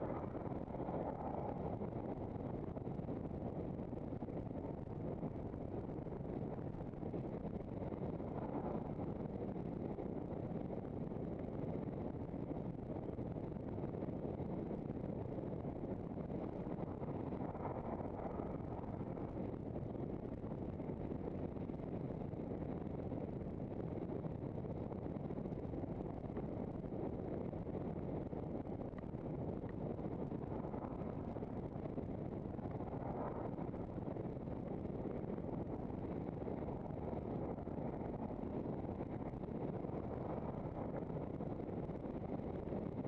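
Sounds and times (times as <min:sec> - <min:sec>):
wind rush on microphone: 0:00.0 - 0:43.0.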